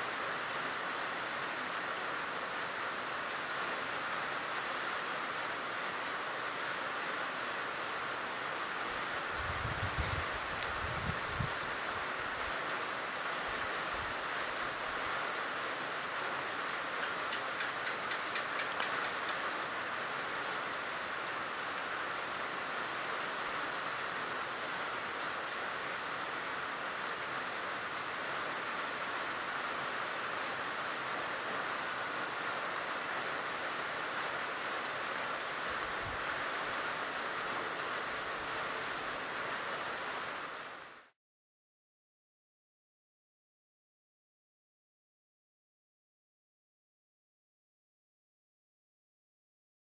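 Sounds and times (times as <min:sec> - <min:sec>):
hiss-like outdoor noise: 0:00.0 - 0:41.2.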